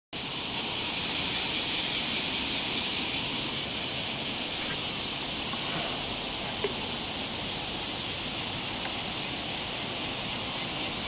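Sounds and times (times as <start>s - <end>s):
insects singing hiss: 0.2s - 11.0s
rapid pulsing insect song: 0.2s - 11.0s.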